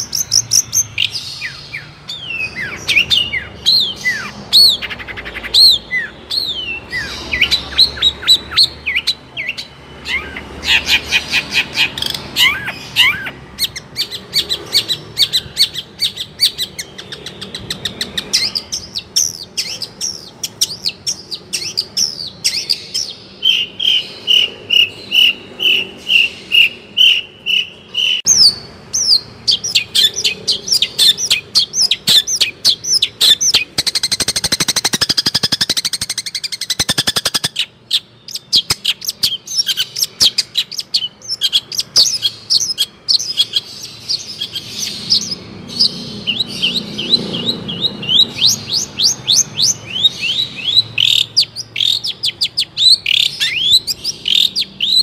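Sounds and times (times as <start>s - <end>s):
bird song of chirps and trills: 0.0s - 55.0s.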